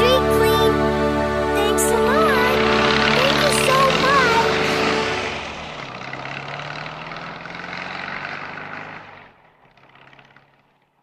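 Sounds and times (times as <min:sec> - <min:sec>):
garbage truck engine rumbling: 0:00.0 - 0:11.0.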